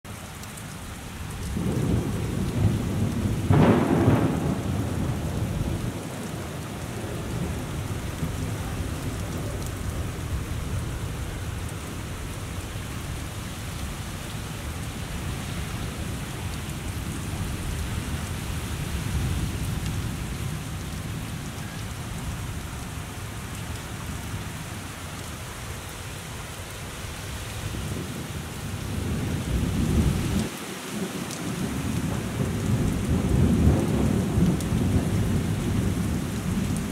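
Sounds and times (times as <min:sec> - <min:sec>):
heavy rain pouring: 0:00.1 - 0:36.9.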